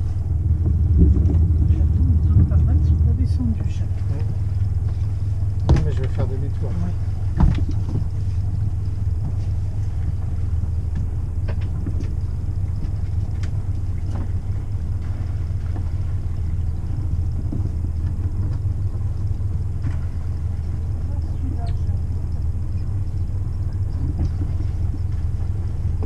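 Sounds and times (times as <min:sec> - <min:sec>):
boat engine running low: 0:00.0 - 0:26.0.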